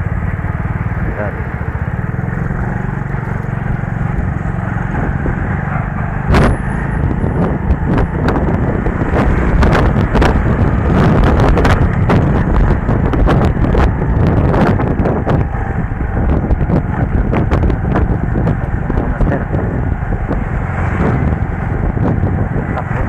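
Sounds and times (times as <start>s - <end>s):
motorcycle engine and road noise: 0.0s - 23.0s
wind buffeting microphone: 0.6s - 23.0s.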